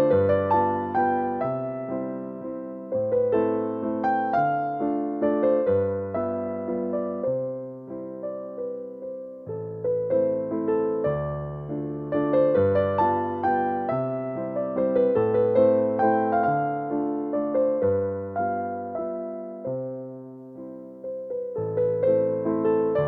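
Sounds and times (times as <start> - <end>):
electric piano melody: 0.0 - 23.0.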